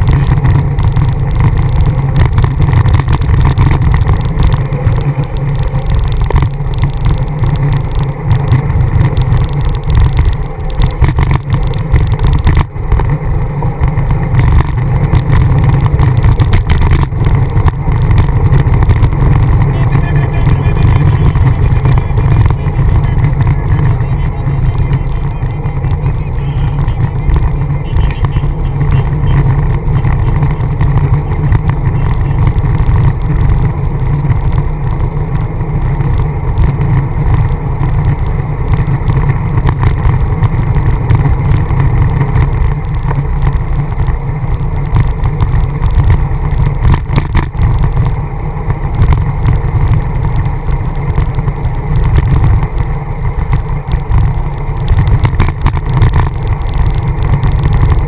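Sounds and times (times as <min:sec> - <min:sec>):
tyre road noise: 0:00.0 - 0:58.0
wind rumbling over microphone: 0:00.0 - 0:58.0.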